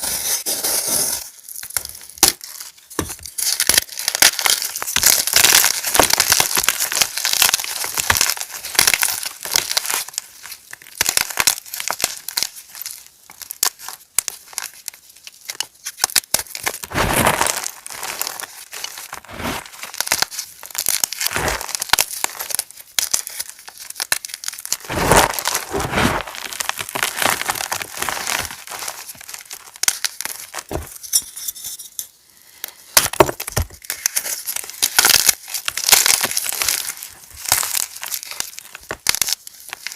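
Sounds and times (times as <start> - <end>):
chalk being crushed: 0.0 - 31.3, 33.0 - 39.9.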